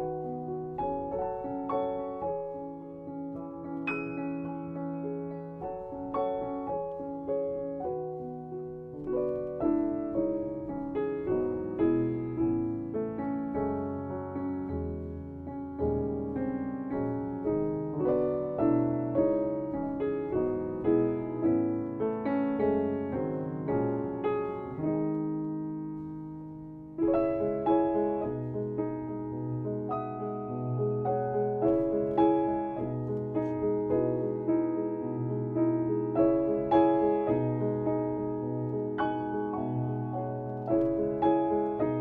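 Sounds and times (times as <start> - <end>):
gentle solo piano melody: 0.0 - 42.0.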